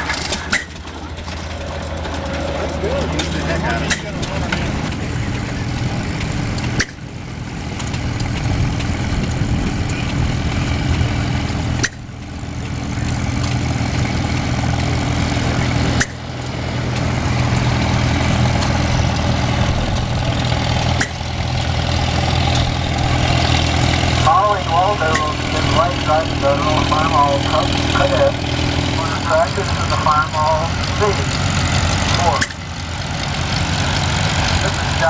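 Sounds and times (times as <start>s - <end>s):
tractor engines running: 0.0s - 35.0s.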